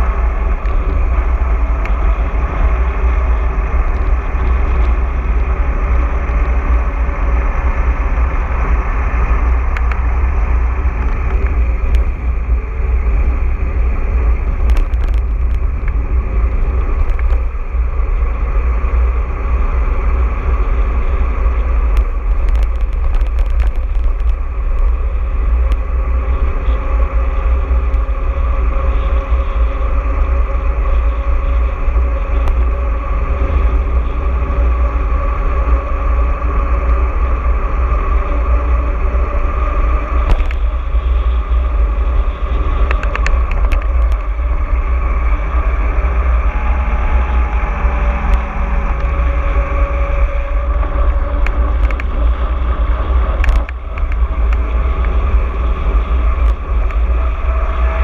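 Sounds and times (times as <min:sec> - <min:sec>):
mountain bike tyre and frame noise: 0:00.0 - 0:58.0
wind rumble on microphone: 0:00.0 - 0:58.0.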